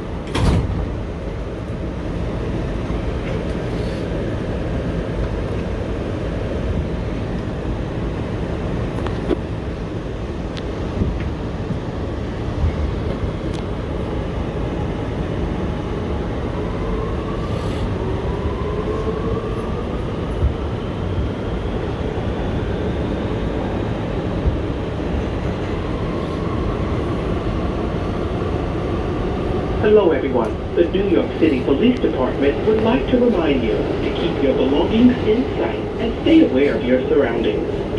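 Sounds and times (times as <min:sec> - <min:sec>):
wheels rumbling on rail: 0:00.0 - 0:37.9.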